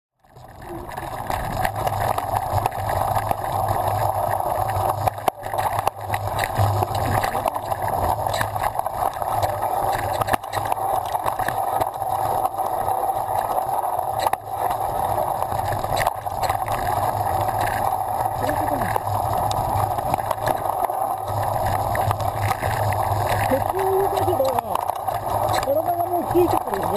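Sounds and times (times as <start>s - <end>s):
mountain bike ride noise: 0.5s - 26.9s.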